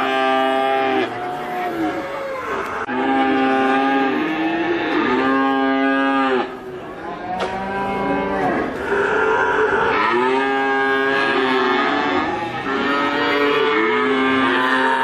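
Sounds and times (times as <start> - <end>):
cow mooing: 0.0 - 6.6, 7.4 - 15.0.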